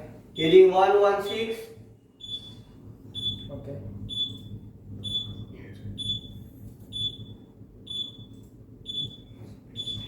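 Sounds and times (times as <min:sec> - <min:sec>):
steady low hum: 0:00.0 - 0:10.0
electronic alarm beeping: 0:00.4 - 0:01.6, 0:02.2 - 0:10.0.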